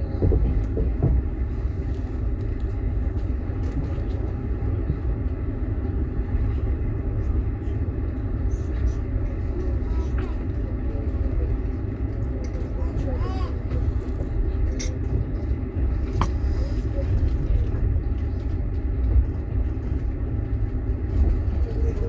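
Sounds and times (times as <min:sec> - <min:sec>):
train carriage rumbling on track: 0:00.0 - 0:22.0.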